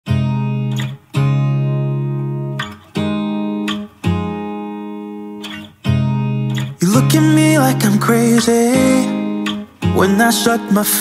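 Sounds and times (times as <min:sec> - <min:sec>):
guitar chords ringing: 0:00.1 - 0:11.0.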